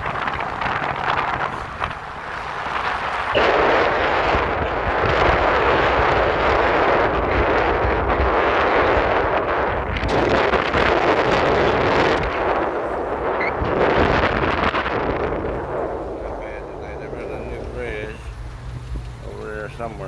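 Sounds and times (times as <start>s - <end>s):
low road rumble: 0.0s - 20.0s
wind buffeting microphone: 0.0s - 20.0s.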